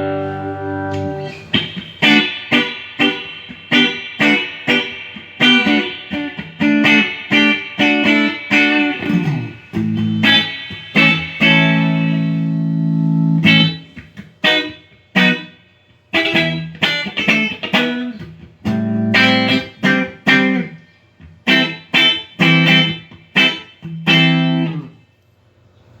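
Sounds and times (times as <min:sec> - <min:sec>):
picked guitar notes: 0:00.0 - 0:25.0
strummed guitar chords: 0:00.0 - 0:25.0
electric guitar through amplifier: 0:00.0 - 0:25.1.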